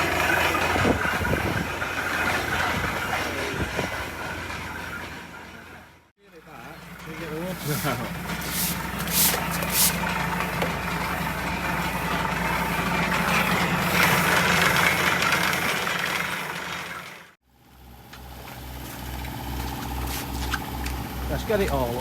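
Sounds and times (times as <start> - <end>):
engine running with rattle: 0.0 - 22.0.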